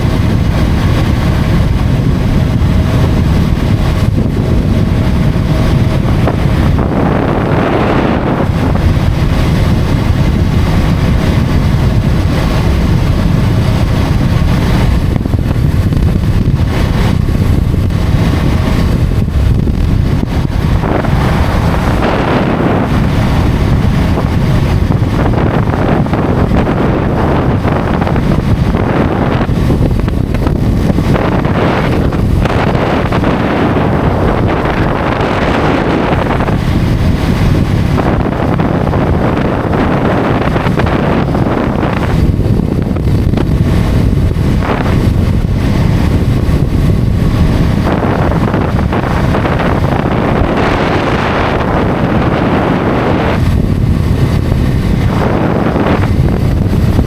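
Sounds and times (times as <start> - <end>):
motorcycle running: 0.0 - 57.0
wind buffeting microphone: 0.0 - 57.0.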